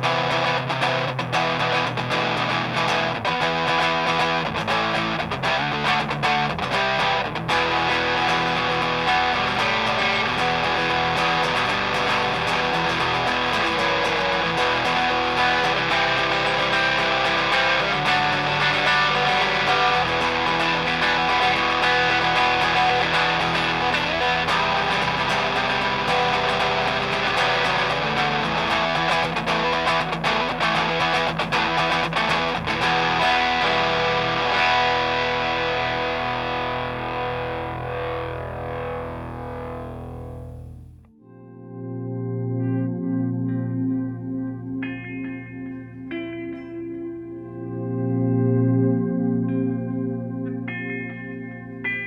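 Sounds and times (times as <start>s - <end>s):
overdriven electric guitar: 0.0s - 52.0s.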